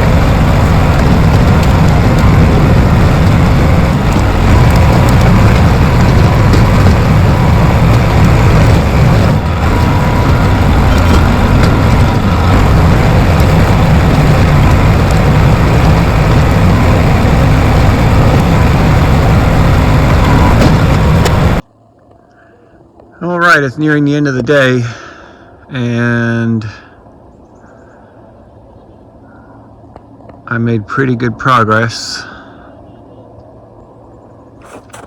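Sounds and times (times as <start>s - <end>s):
bulldozer diesel engine running: 0.0s - 21.6s, 22.7s - 35.0s.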